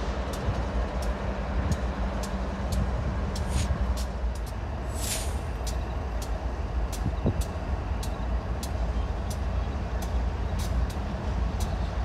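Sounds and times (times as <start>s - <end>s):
diesel locomotives rumbling: 0.0s - 12.0s
faint sharp ticks: 0.2s - 4.6s, 5.2s - 12.0s.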